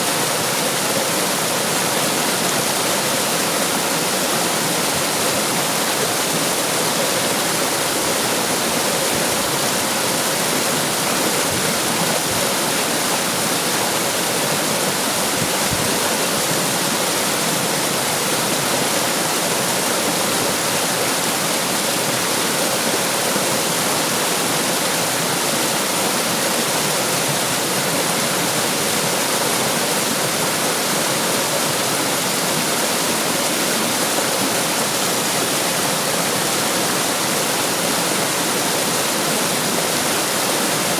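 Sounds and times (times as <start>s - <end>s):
water rushing and splashing: 0.0s - 40.9s.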